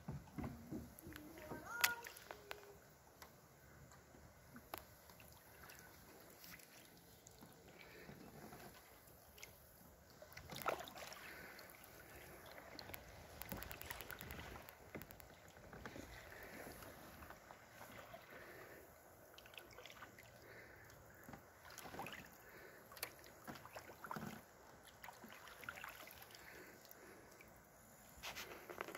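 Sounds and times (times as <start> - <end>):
paddle strokes in water: 0.0 - 3.5, 4.1 - 28.9
water drips and splashes: 0.8 - 28.2.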